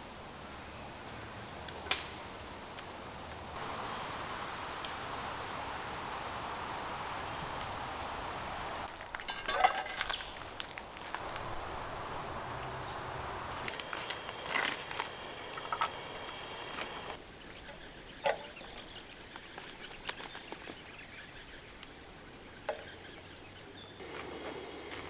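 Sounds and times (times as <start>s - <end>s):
steady background hiss: 0.0s - 19.4s, 20.8s - 25.0s.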